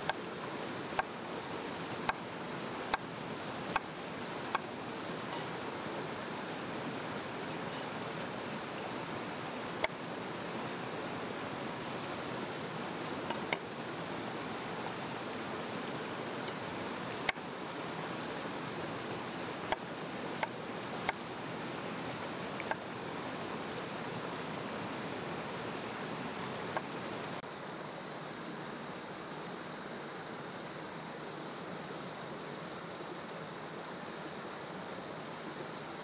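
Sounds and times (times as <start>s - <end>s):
mountain stream rushing: 0.0s - 36.0s.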